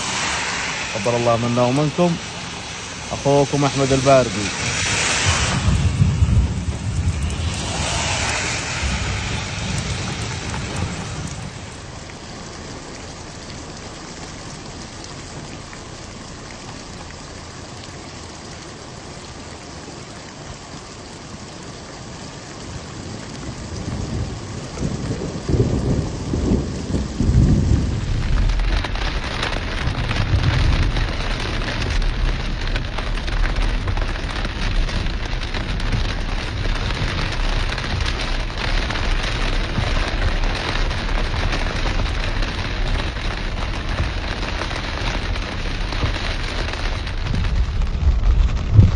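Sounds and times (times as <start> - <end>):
thunder rumbling: 0.0 - 13.6, 23.0 - 48.9
rain falling: 0.0 - 48.9.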